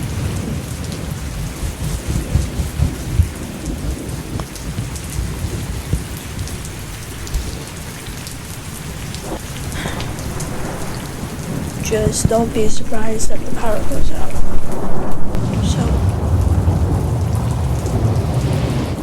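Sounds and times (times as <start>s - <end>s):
low thunder rumbling: 0.0s - 19.0s
steady rain falling: 0.0s - 19.0s.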